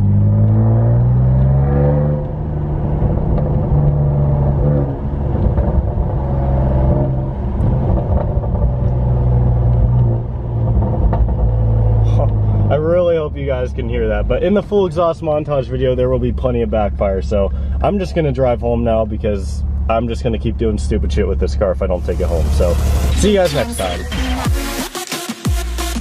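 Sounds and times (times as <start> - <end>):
exhaust crackles: 0.0 - 24.8
car engine revving: 0.0 - 25.0.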